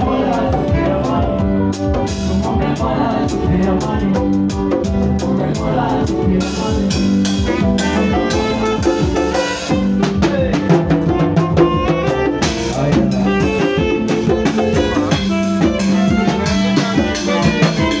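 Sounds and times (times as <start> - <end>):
drum kit beat: 0.0 - 18.0
electronic keyboard chords: 0.0 - 18.0.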